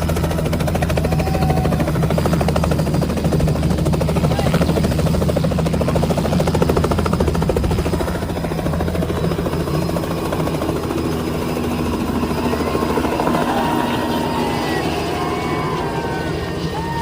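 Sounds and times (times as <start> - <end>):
helicopter engine hum: 0.0 - 17.0
helicopter rotor chop: 0.0 - 17.0.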